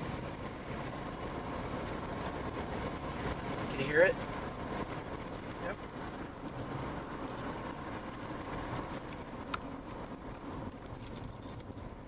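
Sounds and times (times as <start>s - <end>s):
tornado roaring: 0.0s - 10.9s.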